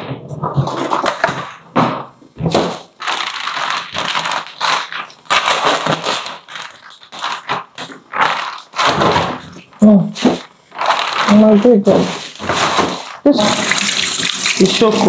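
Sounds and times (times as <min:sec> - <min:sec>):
plastic bag crinkling: 0:02.4 - 0:15.0.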